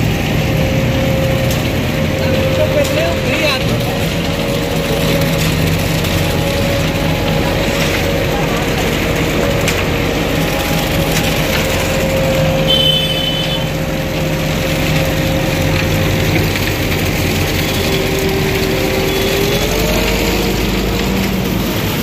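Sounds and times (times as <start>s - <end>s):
diesel engine running: 0.0s - 22.0s
passing motorbikes: 0.0s - 22.0s.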